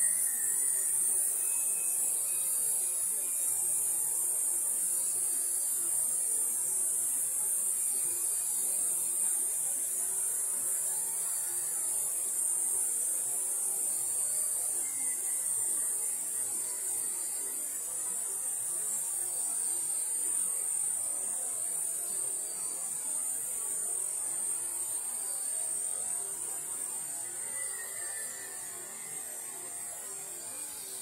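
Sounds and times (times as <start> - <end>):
high-pitched hiss: 0.0 - 31.0.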